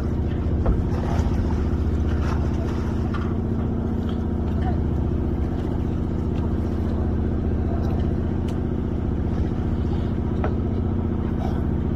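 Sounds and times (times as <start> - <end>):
boat engine droning: 0.0 - 11.9.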